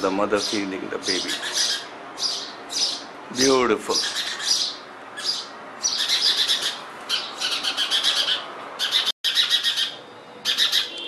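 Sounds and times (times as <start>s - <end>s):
sparrow nestlings cheeping: 0.4s - 3.1s, 4.0s - 11.0s.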